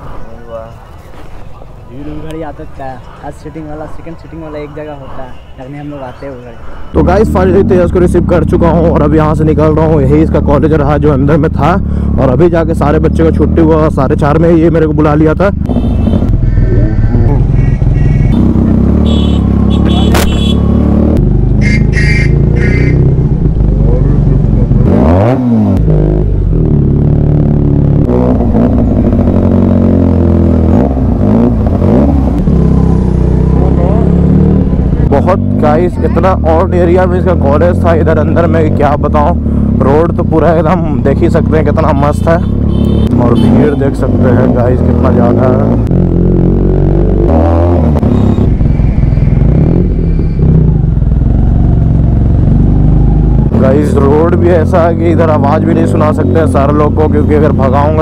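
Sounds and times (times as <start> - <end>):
motorcycle engine revving: 6.9 - 58.0.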